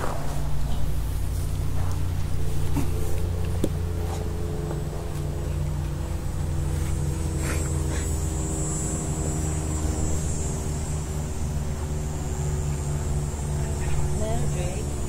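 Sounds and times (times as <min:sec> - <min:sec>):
low mechanical hum: 0:00.0 - 0:15.0
thin high whine: 0:00.0 - 0:15.0.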